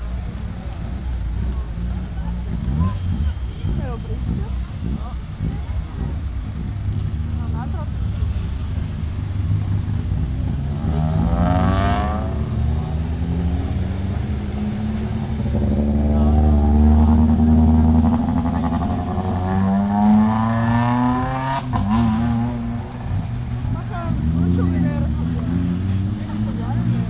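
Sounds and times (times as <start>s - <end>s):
race car engines revving past: 0.0s - 27.0s.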